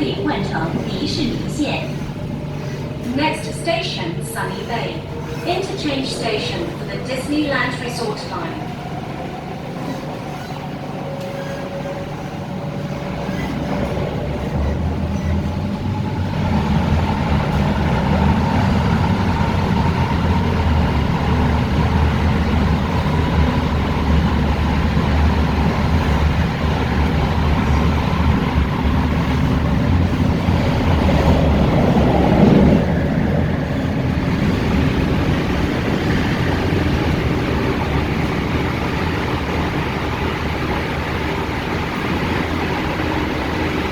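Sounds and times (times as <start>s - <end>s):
electric train rumbling: 0.0s - 43.9s.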